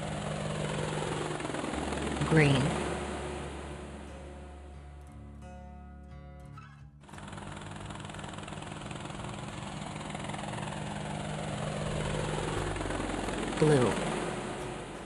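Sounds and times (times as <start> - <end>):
helicopter engine and rotor: 0.0 - 5.1, 7.0 - 15.0.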